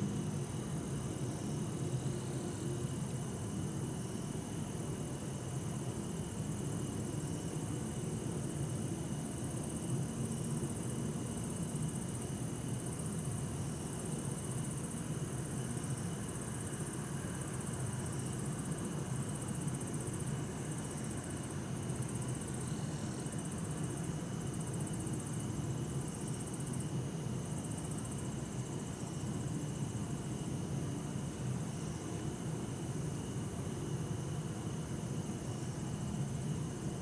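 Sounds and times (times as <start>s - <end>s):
cricket pulsing: 0.0s - 37.0s
insects trilling: 0.0s - 37.0s.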